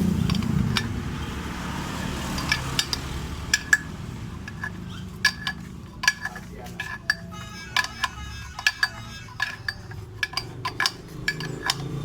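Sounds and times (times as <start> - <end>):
metal tools clinking on metal: 0.0 - 12.0.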